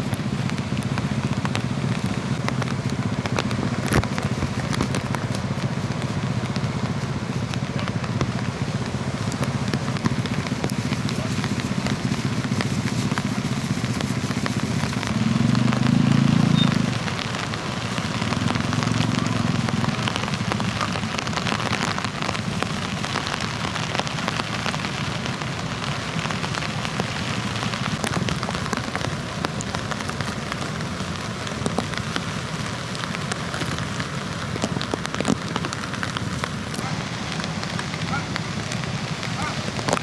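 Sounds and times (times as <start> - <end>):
breaking surf: 0.0 - 40.0.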